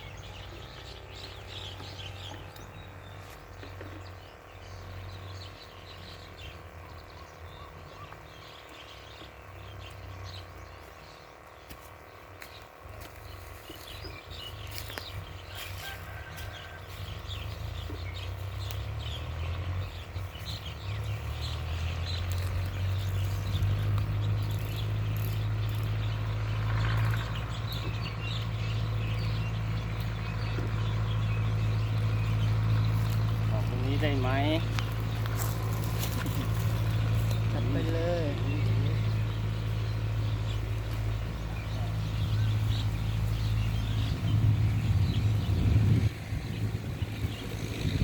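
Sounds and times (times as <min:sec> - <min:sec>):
birds chirping: 0:00.0 - 0:48.0
motor humming: 0:00.0 - 0:48.0.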